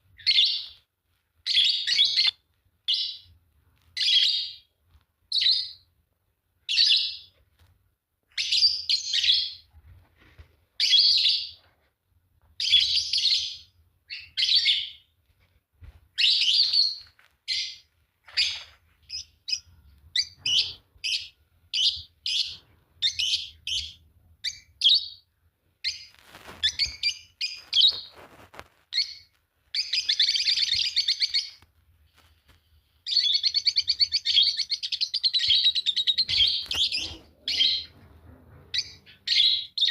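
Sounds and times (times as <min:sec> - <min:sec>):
lovebirds chirping: 0:00.0 - 0:06.0, 0:06.6 - 0:07.5, 0:08.3 - 0:09.7, 0:10.8 - 0:11.7, 0:12.6 - 0:15.2, 0:16.1 - 0:31.6, 0:32.3 - 0:39.9.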